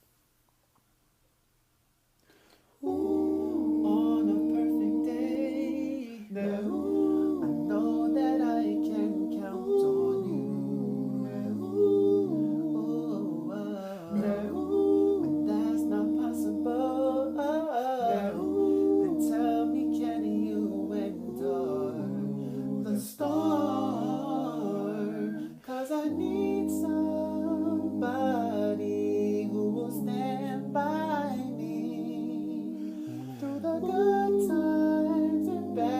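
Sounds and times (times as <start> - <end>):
low bass vocal part: 2.8 - 35.9
voices humming chords: 6.6 - 35.9.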